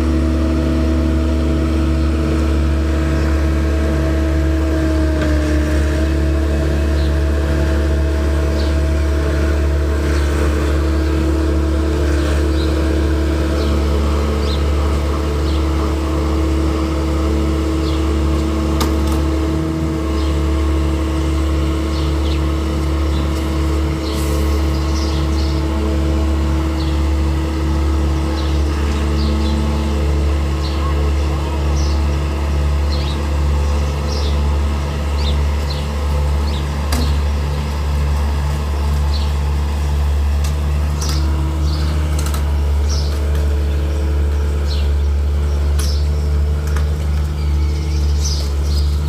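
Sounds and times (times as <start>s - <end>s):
farm machine engine droning: 0.0s - 49.0s.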